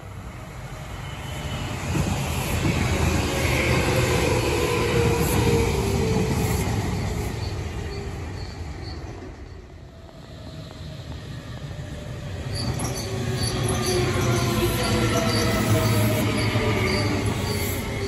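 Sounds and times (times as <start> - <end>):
electric trains passing: 0.0 - 18.0.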